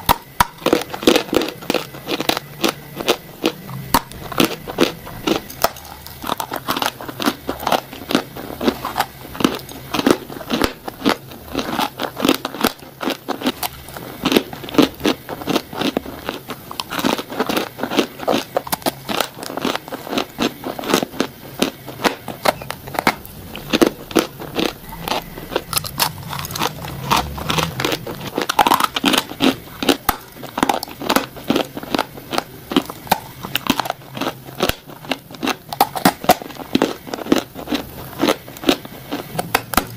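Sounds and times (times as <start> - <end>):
crunchy bites into cookie: 0.0 - 39.9.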